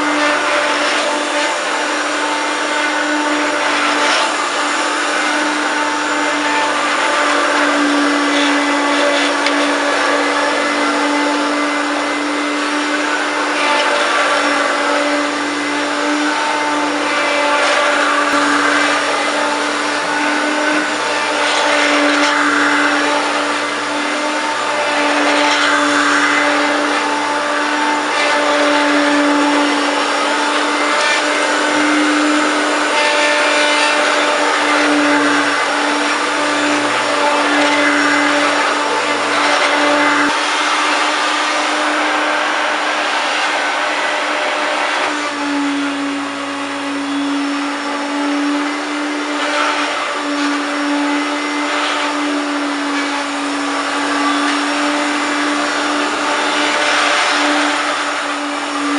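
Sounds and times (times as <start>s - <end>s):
upright vacuum cleaner running: 0.0s - 58.9s.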